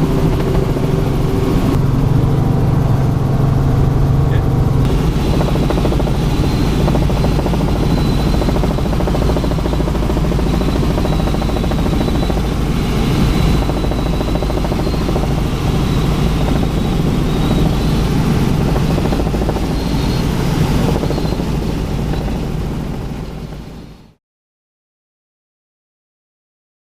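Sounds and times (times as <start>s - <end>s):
helicopter in flight: 0.0s - 24.2s.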